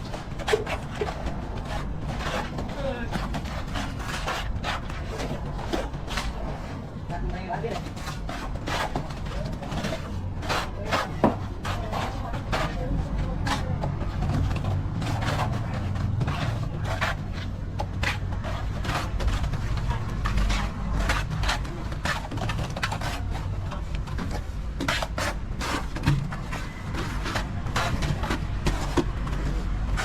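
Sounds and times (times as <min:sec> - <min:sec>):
trowel scraping a wall: 0:00.0 - 0:30.0.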